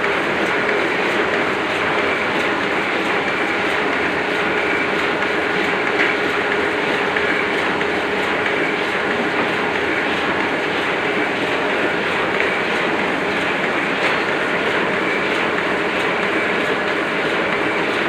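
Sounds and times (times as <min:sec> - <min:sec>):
printing press clattering: 0:00.0 - 0:18.0.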